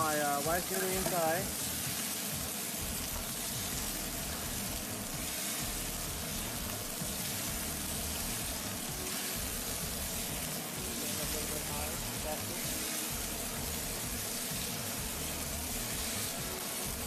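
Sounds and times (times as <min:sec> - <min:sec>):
food sizzling in hot oil: 0:00.0 - 0:17.0
noodles hitting hot pan: 0:00.0 - 0:17.0.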